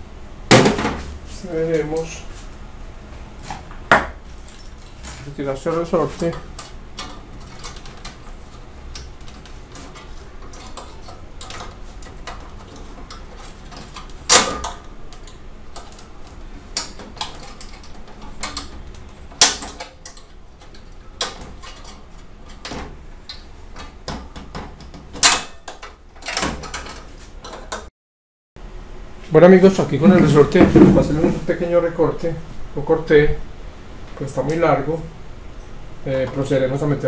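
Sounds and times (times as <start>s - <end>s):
quiet handling noise: 0.7s - 27.9s, 29.2s - 37.0s.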